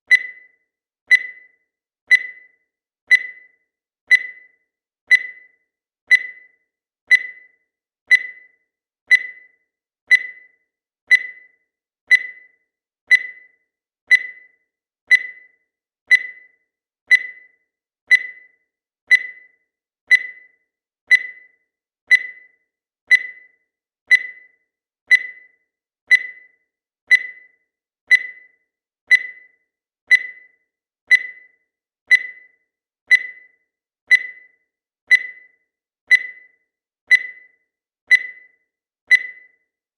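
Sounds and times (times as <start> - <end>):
digital timer beeping: 0.0 - 39.9.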